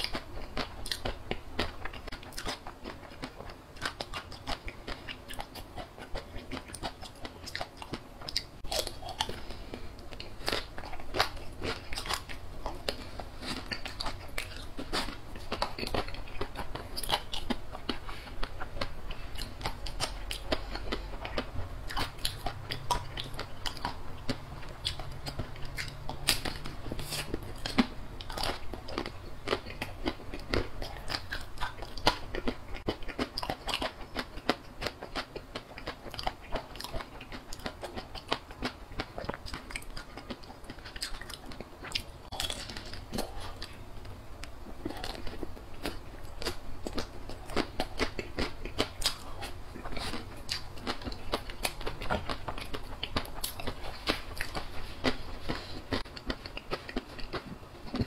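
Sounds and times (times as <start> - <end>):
biting and chewing: 0.0 - 58.0.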